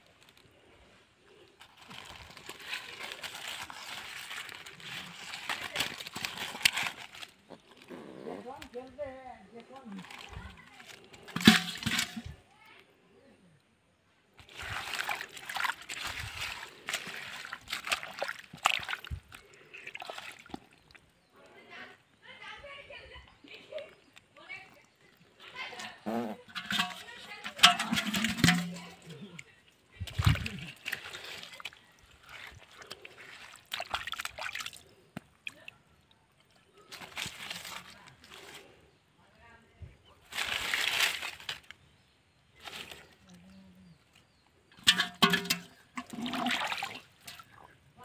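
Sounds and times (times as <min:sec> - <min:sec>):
muddy water splashing: 0:00.0 - 0:12.4, 0:14.3 - 0:21.8, 0:23.4 - 0:39.0, 0:40.1 - 0:48.0.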